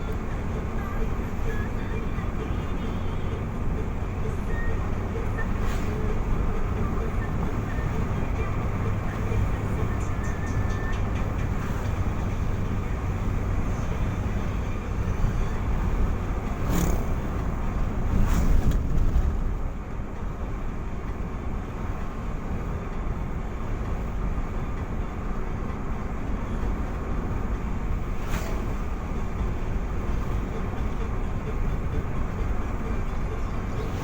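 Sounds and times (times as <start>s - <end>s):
vehicle road and engine rumble: 0.0s - 34.0s.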